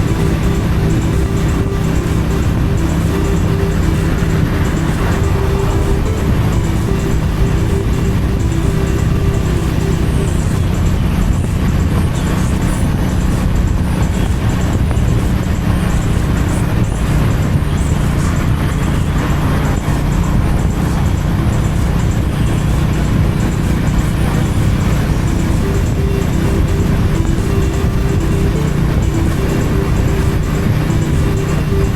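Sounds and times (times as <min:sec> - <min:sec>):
motorcycle engine cruising: 0:00.0 - 0:31.9
wind and road noise: 0:00.0 - 0:31.9.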